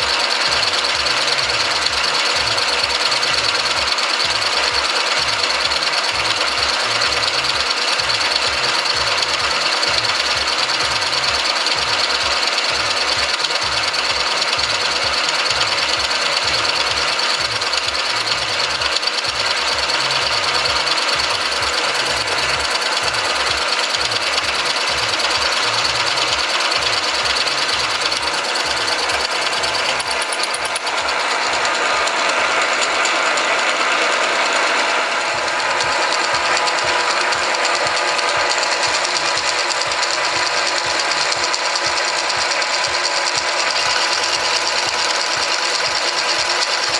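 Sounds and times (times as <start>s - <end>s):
low knocking rhythm: 0.0s - 46.9s
milling machine cutting metal: 0.0s - 46.9s.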